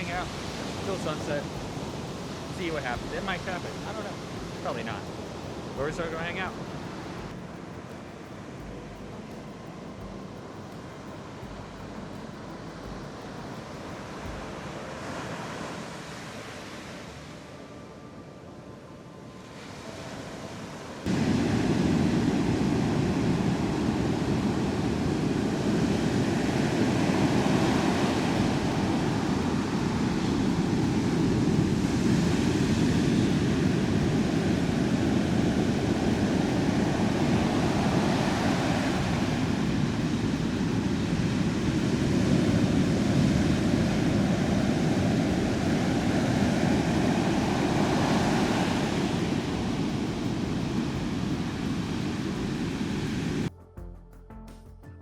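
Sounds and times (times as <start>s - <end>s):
ocean surf breaking: 0.0s - 11.6s, 12.8s - 17.8s, 19.3s - 53.5s
wind rumble on microphone: 0.0s - 53.5s.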